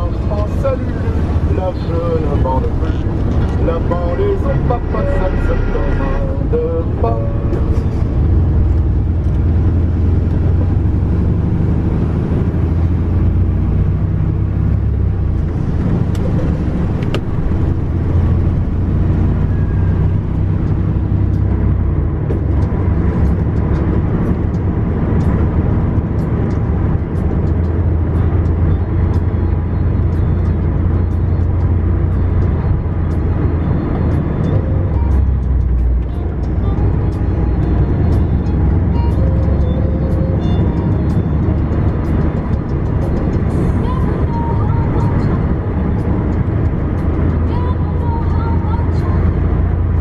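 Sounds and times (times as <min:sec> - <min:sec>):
truck engine and tyre drone: 0:00.0 - 0:50.0.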